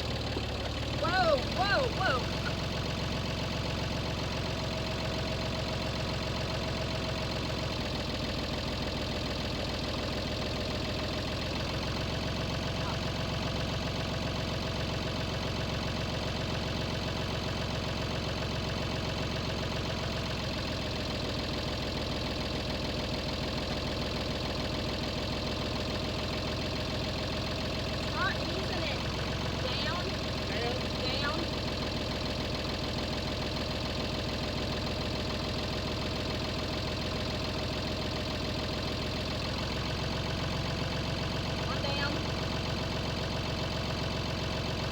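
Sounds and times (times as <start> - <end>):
tractor engine idling: 0.0 - 44.9.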